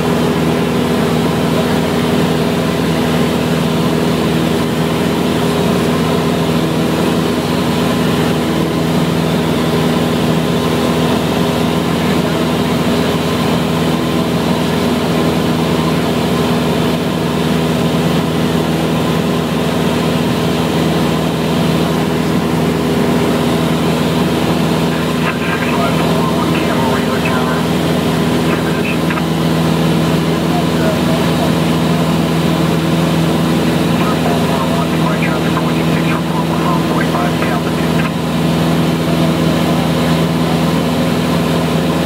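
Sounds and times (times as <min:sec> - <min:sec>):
aircraft engine and propeller droning: 0:00.0 - 0:42.0.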